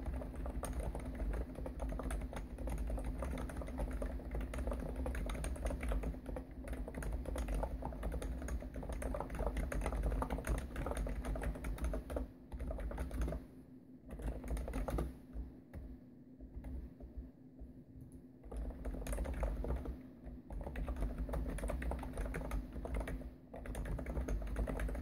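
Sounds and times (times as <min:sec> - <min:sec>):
keyboard keystrokes: 0:00.0 - 0:13.4, 0:14.1 - 0:25.0.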